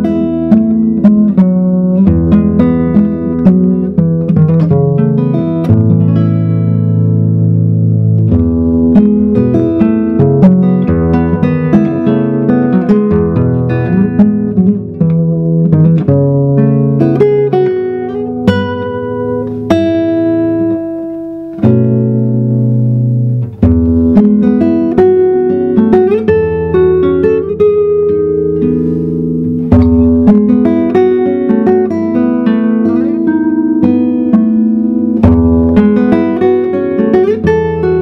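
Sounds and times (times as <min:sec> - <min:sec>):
classical guitar piece: 0:00.0 - 0:38.0.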